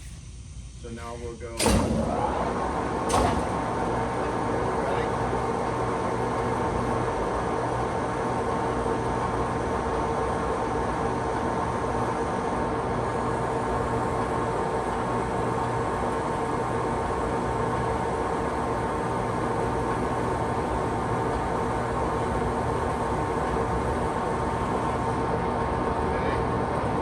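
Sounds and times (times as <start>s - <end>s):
lathe running with whine: 1.8s - 27.0s.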